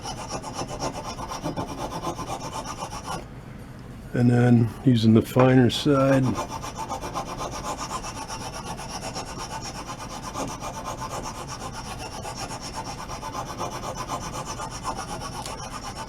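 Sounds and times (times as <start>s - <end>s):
rasp scraping wood: 0.0s - 3.2s, 6.0s - 16.0s.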